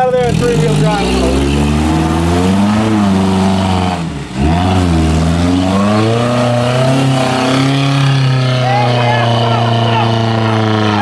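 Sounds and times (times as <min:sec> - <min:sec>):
car engine revving hard in mud: 0:00.0 - 0:11.0.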